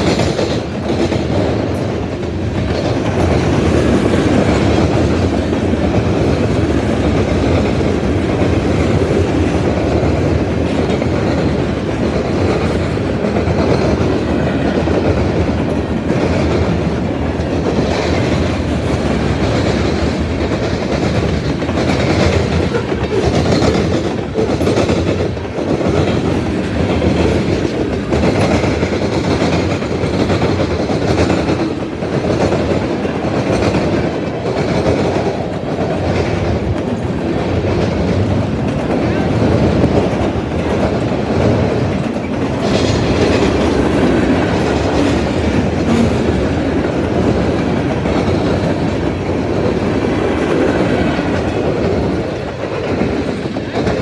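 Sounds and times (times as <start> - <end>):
freight train wheels rumbling: 0.0 - 54.0
wheels clickety-clack: 0.0 - 54.0.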